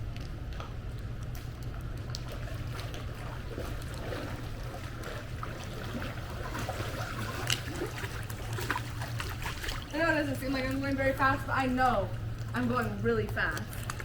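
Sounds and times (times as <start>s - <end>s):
pool water sloshing and splashing: 0.0s - 14.0s
steady low hum: 0.0s - 14.0s.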